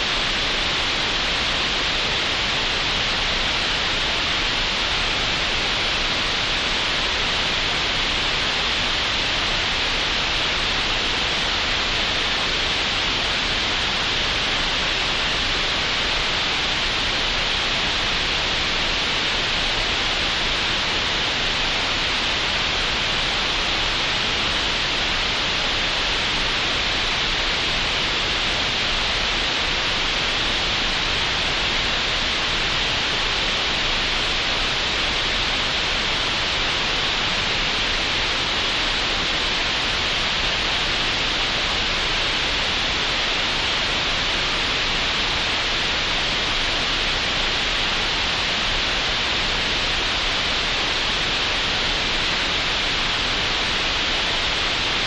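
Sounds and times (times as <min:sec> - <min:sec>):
steady synthetic noise hiss: 0:00.0 - 0:55.0.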